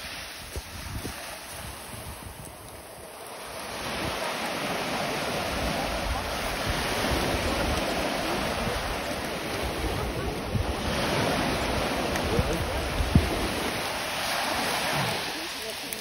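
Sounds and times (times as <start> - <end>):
waves washing up gravel beach: 0.0 - 16.0.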